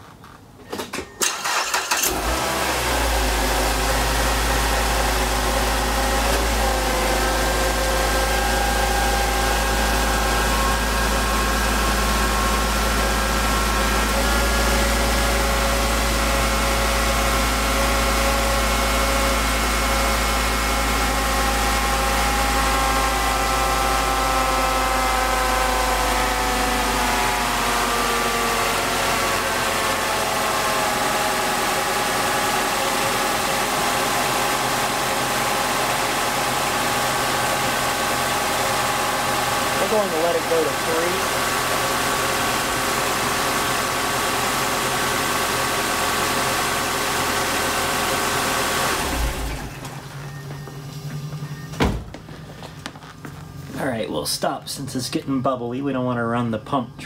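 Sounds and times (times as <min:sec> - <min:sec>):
car engine starting and idling: 0:00.8 - 0:56.0.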